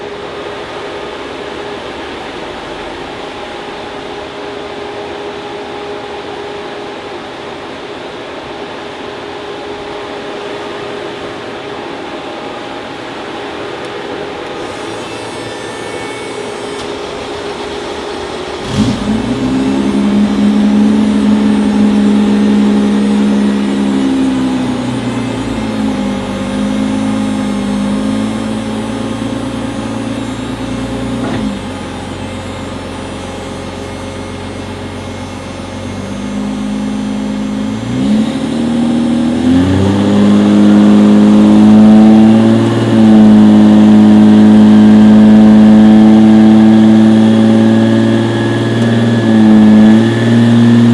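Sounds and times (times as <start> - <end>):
car engine revving on dyno: 0.0 - 50.9.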